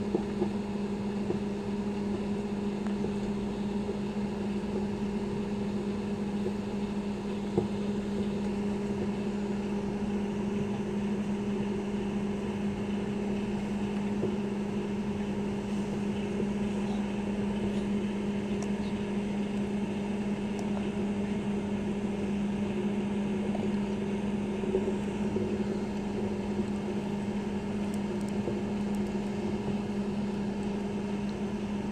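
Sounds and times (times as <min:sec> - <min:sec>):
microwave oven humming: 0:00.0 - 0:31.9.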